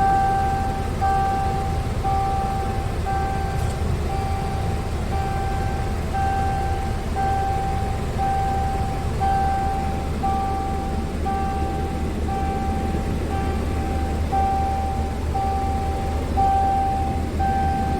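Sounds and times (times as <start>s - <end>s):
diesel truck engine rumbling: 0.0s - 17.9s
electronic warning beeper: 0.0s - 17.9s.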